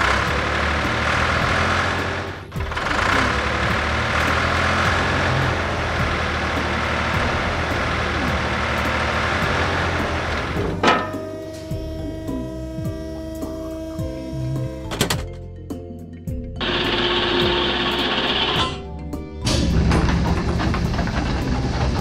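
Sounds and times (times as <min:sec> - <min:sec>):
heavy truck engine running: 0:00.0 - 0:15.7, 0:16.6 - 0:22.0.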